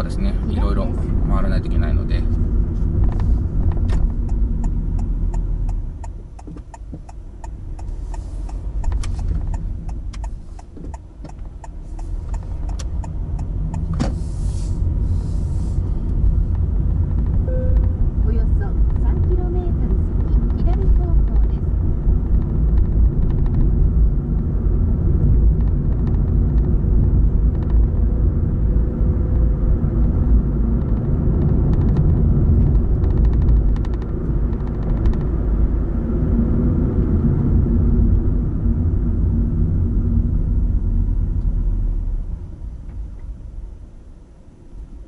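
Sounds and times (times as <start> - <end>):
car road noise inside cabin: 0.0 - 45.0.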